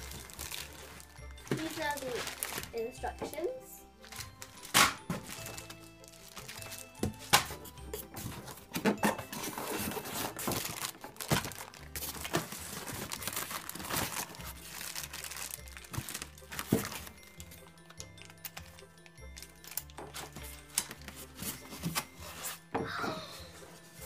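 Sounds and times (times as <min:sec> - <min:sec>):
plastic wrapping crinkling: 0:00.0 - 0:22.7
background music: 0:00.0 - 0:24.0.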